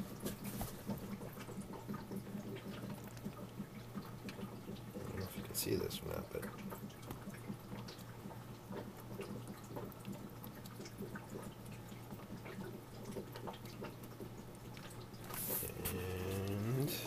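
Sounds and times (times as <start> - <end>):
water pump humming: 0.0 - 17.0
water trickling and dripping: 0.0 - 17.0.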